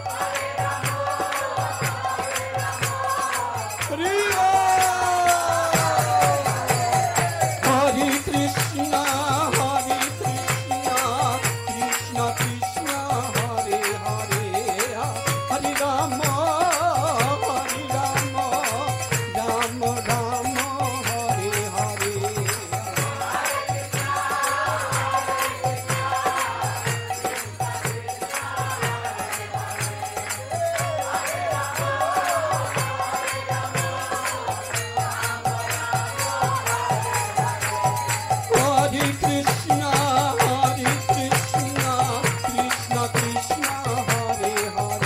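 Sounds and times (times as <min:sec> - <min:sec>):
voices chanting together: 0:00.0 - 0:12.5, 0:20.0 - 0:45.0
jingling hand percussion: 0:00.0 - 0:45.0
steady drum beat: 0:00.0 - 0:45.0.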